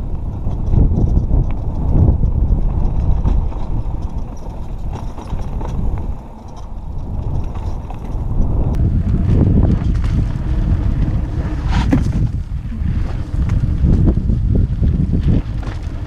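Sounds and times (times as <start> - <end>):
bike tyres and frame clattering: 0.0 - 16.0
wind rumble on microphone: 0.0 - 16.0.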